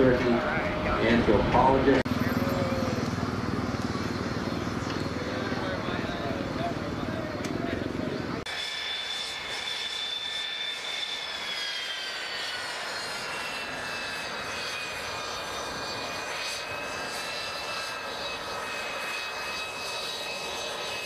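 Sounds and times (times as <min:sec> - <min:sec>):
jet turbine engine whining: 0:00.0 - 0:21.0.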